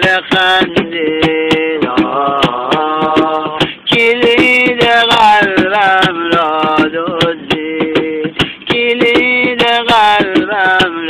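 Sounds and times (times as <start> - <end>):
crisp percussive beat: 0.0 - 11.0
man singing wordless held notes: 0.0 - 11.0.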